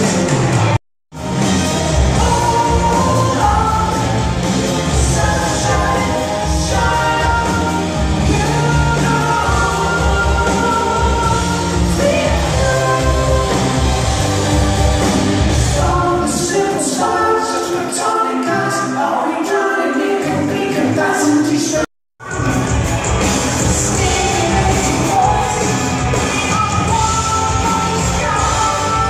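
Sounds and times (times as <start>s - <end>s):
live progressive rock band: 0.0s - 18.9s, 22.2s - 29.0s
person singing lead vocal: 1.2s - 22.8s, 23.6s - 29.0s.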